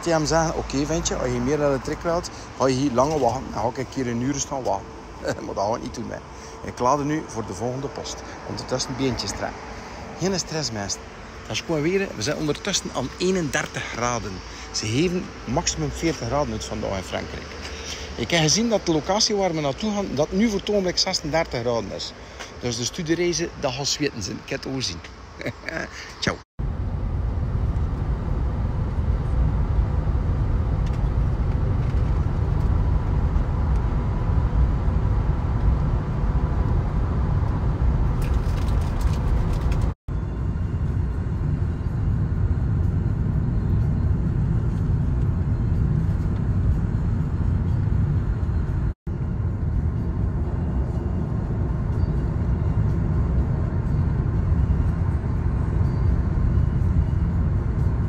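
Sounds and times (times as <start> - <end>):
car road and wind noise: 0.0 - 58.0.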